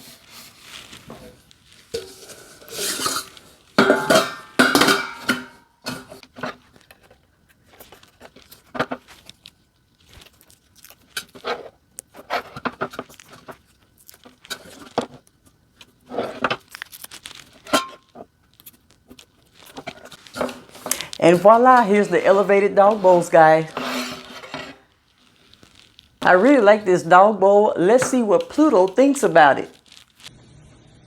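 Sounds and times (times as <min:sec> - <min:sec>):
parts clattering and scraping: 0:00.0 - 0:15.2, 0:15.8 - 0:27.0.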